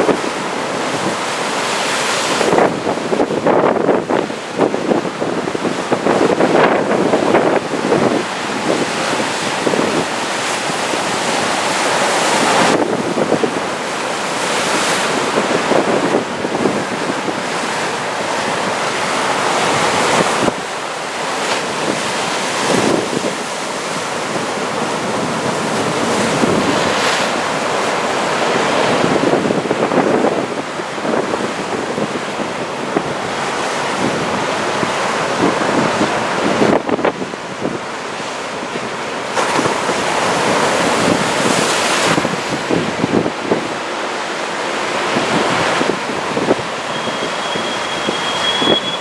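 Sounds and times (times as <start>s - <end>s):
wind buffeting microphone: 0.0s - 47.4s
ocean surf breaking: 0.0s - 49.0s.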